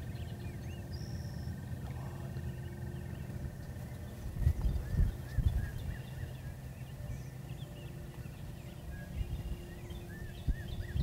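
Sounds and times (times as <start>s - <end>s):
low rumble: 0.0s - 11.0s
small birds chirping faintly: 0.0s - 11.0s.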